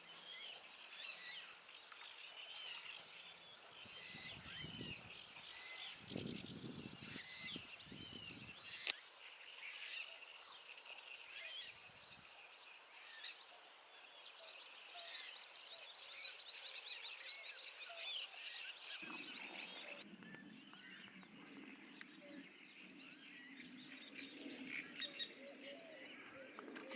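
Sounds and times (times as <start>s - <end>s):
songbirds chirping and warbling: 0.0s - 26.9s.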